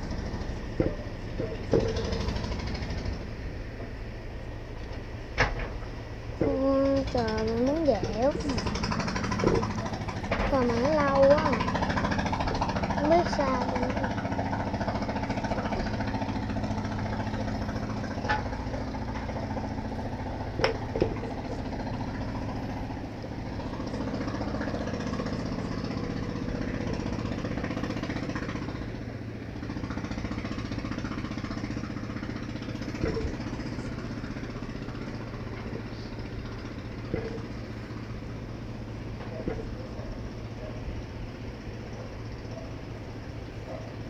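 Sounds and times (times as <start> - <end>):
motor running with pulsing beat: 0.0 - 44.0.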